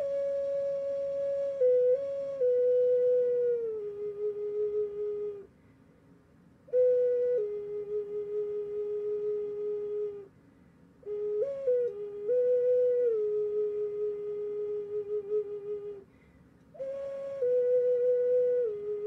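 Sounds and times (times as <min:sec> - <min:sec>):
flute playing slow melody: 0:00.0 - 0:05.5, 0:06.7 - 0:10.3, 0:11.0 - 0:16.0, 0:16.7 - 0:19.0.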